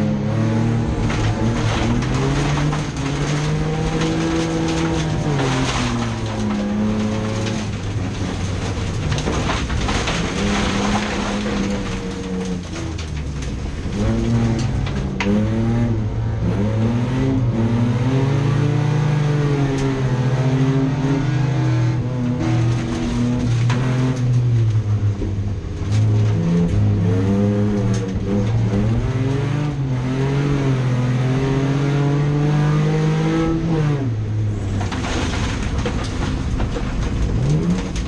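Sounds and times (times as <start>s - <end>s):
race car engines revving: 0.0s - 38.0s.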